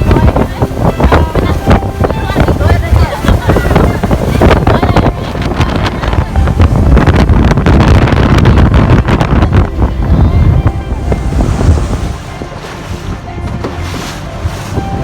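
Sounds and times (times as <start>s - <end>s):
speedboat engine rumble: 0.0s - 15.0s
wind buffeting microphone: 0.0s - 15.0s.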